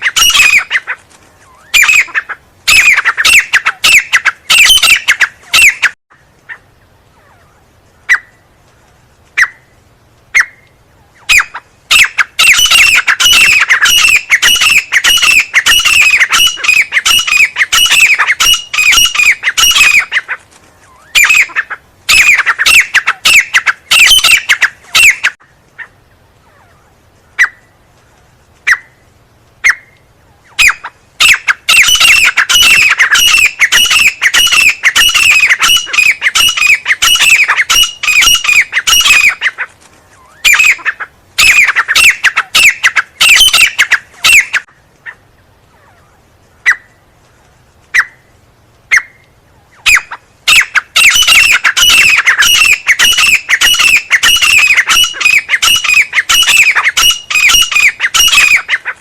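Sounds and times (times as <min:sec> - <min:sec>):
francolin calling: 0:00.0 - 0:08.5, 0:09.4 - 0:27.8, 0:29.6 - 0:47.0, 0:48.9 - 0:59.0.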